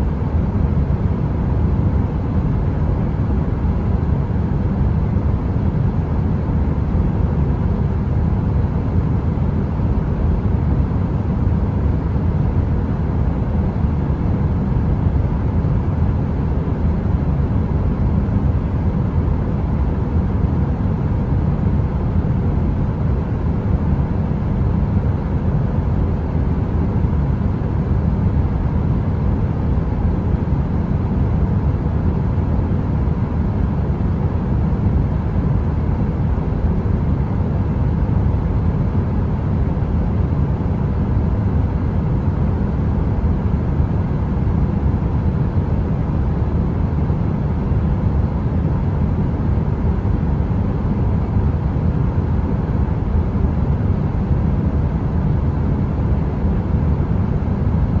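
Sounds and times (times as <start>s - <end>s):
deep heater rumble: 0.0s - 58.0s
faint hum: 0.0s - 58.0s.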